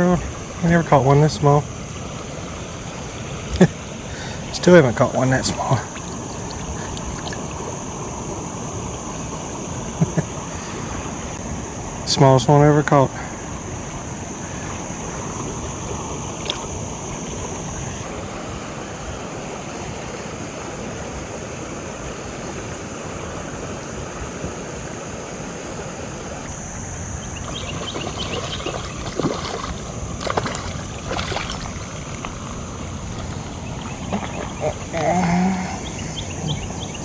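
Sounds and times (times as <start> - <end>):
stream water flowing: 0.0 - 37.0.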